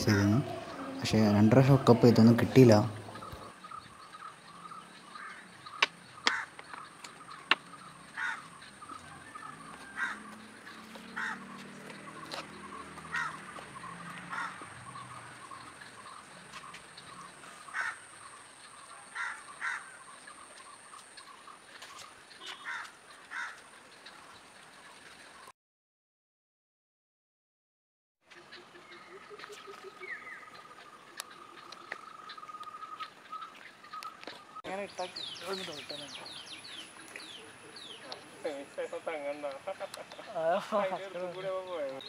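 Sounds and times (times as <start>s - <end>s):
birds calling: 0.0s - 25.5s, 28.3s - 42.0s.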